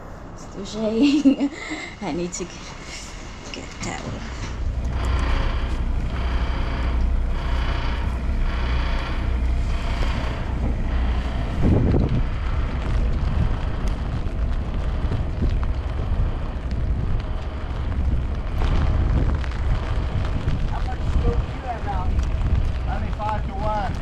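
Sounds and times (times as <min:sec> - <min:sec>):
wind blowing across microphone: 0:03.2 - 0:24.0.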